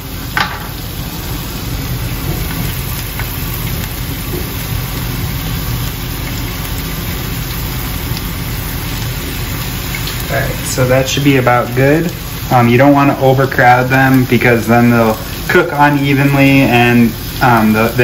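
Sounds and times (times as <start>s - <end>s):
vegetables sizzling on griddle: 0.0s - 18.0s.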